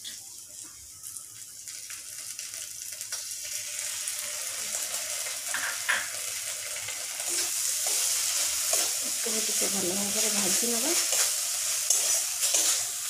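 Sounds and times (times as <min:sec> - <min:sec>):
paste sizzling in hot oil: 0:01.1 - 0:13.0.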